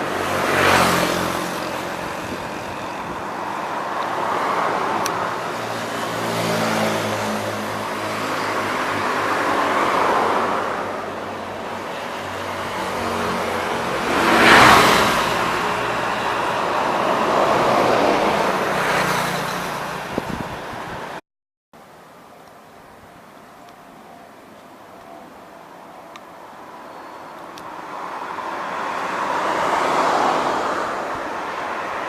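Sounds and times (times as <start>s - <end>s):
road traffic passing: 0.0s - 21.2s, 21.8s - 32.0s.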